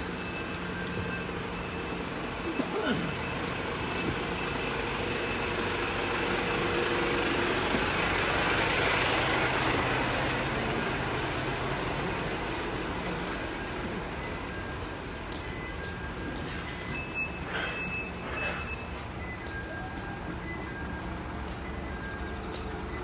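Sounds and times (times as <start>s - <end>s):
traffic rush: 0.0s - 23.0s
truck diesel engines idling: 0.0s - 23.0s.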